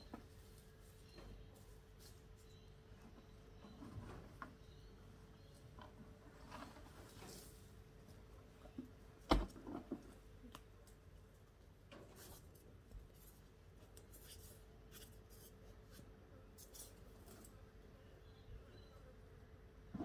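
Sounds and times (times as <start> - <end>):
rustles and clicks of hands in soil: 0.0 - 17.6.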